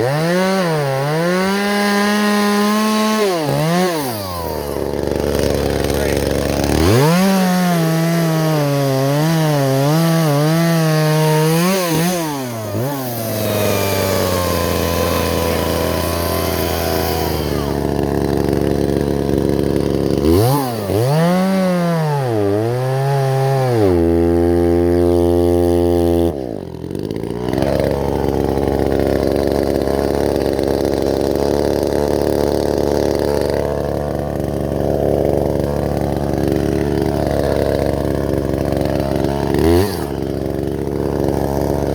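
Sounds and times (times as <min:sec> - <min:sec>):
chainsaw revving: 0:00.0 - 0:41.9.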